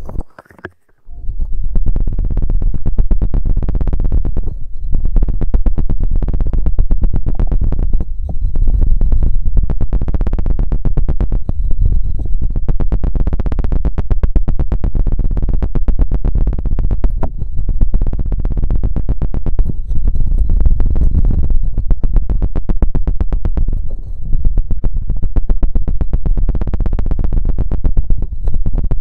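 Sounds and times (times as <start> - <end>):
deep microphone rumble: 0.0 - 29.0
feather scratching microphone: 0.0 - 29.0.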